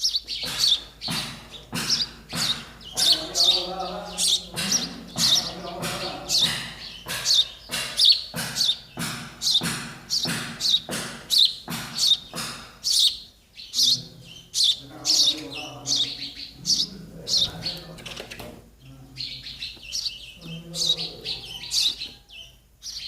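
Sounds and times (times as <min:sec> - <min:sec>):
chicks begging chirps: 0:00.0 - 0:23.0.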